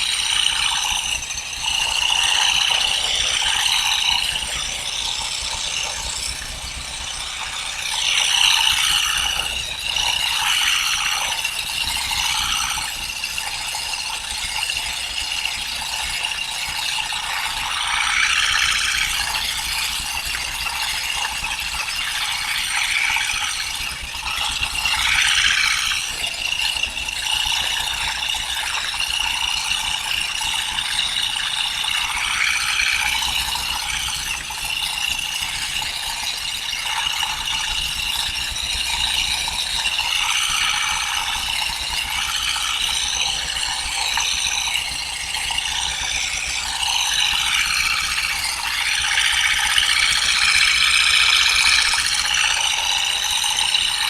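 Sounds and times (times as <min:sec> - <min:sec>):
rapid mechanical rattling: 0:00.0 - 0:54.0.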